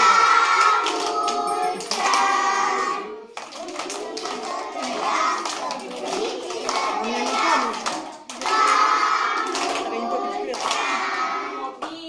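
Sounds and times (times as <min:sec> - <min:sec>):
hands clapping: 0:00.0 - 0:11.2
children singing: 0:00.0 - 0:11.8.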